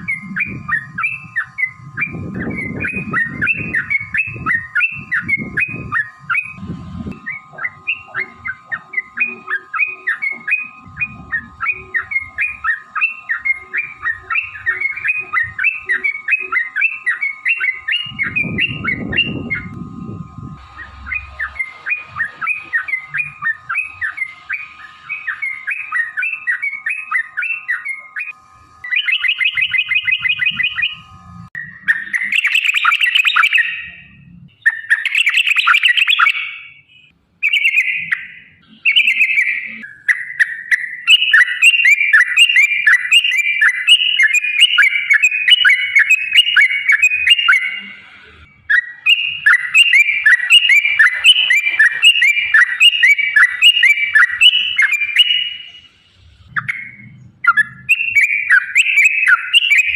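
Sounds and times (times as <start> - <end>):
bulbul singing: 0.0 - 59.9.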